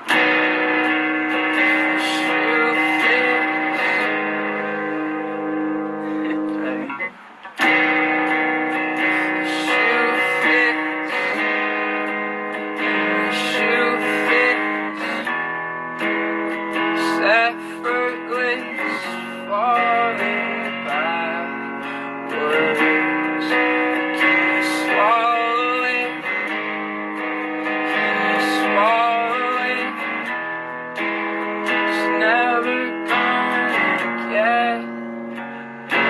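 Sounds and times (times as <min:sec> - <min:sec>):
guitar notes sliding up: 0:00.0 - 0:36.0
guitar strummed chords: 0:00.0 - 0:36.0.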